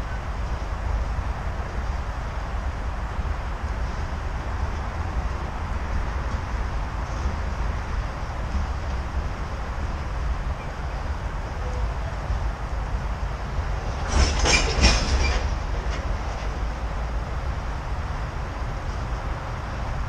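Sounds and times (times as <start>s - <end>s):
hopper cars rumbling past: 0.0s - 20.0s.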